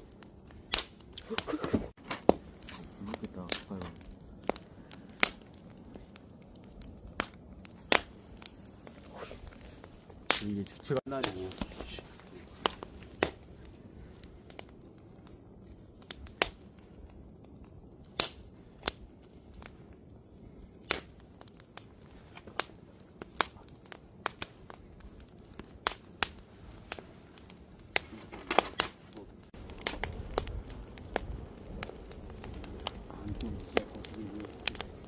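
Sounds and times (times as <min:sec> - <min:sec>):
campfire crackling and popping: 0:00.0 - 0:35.0
fire rushing: 0:00.0 - 0:35.0.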